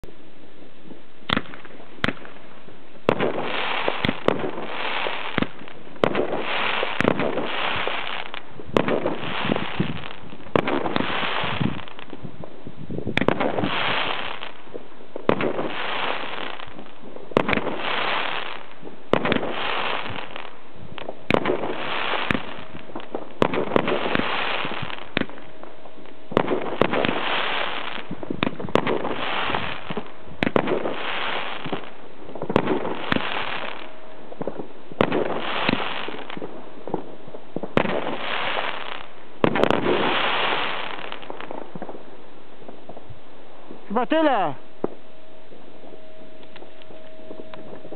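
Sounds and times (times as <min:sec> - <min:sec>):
fireworks banging: 0:00.8 - 0:47.9
fireworks hissing: 0:01.3 - 0:12.3, 0:12.9 - 0:25.4, 0:26.3 - 0:45.0.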